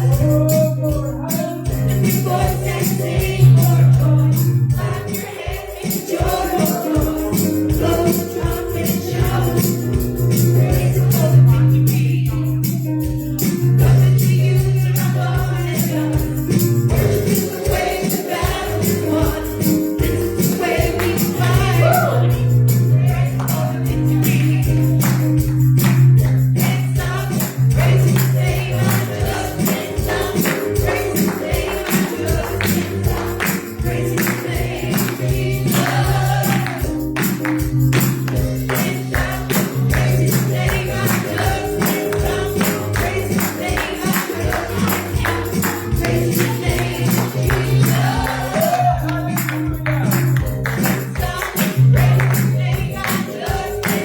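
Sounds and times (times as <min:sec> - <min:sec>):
bass: 0:00.0 - 0:05.7, 0:06.3 - 0:54.0
live gospel music: 0:00.0 - 0:54.0
tambourine or drum strikes: 0:00.0 - 0:54.0
voices singing: 0:00.0 - 0:54.0.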